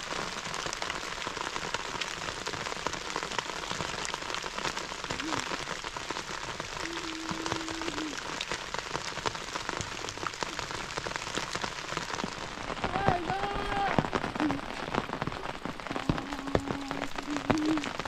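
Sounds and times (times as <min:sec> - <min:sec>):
rain falling on dry leaves: 0:00.0 - 0:18.0.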